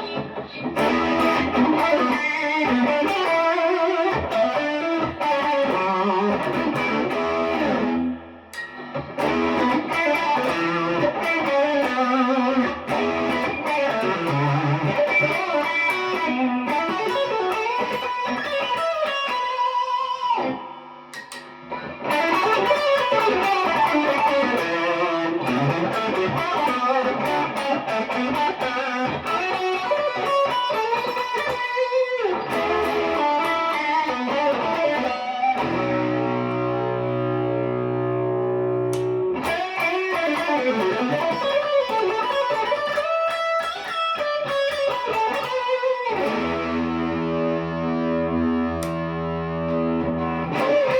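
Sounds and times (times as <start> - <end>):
clean electric guitar playing: 0.0 - 50.9.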